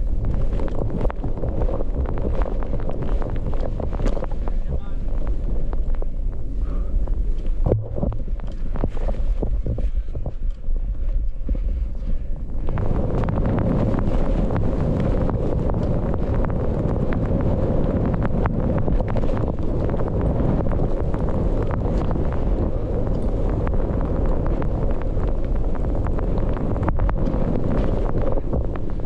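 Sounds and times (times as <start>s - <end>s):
sharp crackles: 0.0s - 29.0s
wind rushing over microphone: 0.0s - 29.0s.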